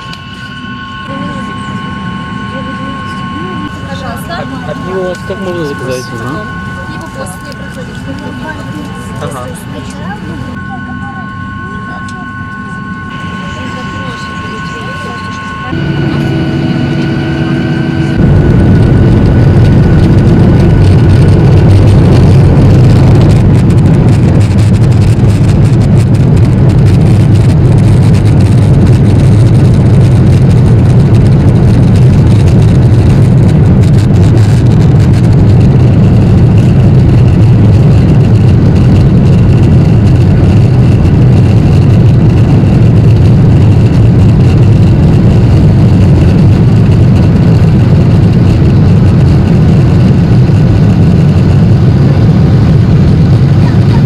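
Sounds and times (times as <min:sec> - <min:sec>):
airplane cabin noise: 0:00.0 - 0:54.0.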